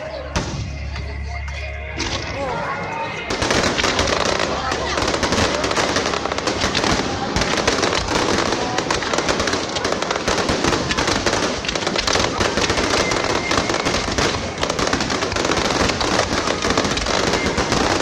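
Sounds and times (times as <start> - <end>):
fireworks crackling: 3.0 - 18.0.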